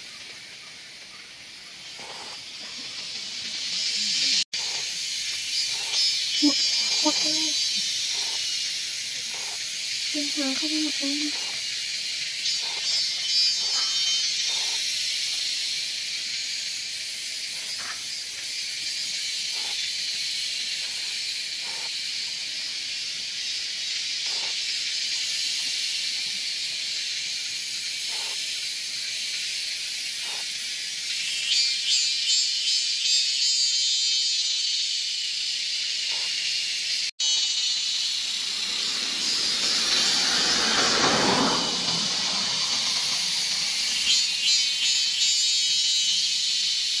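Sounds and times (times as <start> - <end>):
forest insects droning: 0.0 - 47.0.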